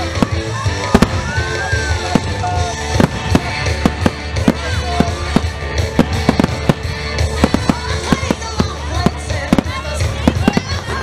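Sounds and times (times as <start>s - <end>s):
fireworks bursting: 0.0s - 11.0s
music over loudspeakers: 0.0s - 11.0s.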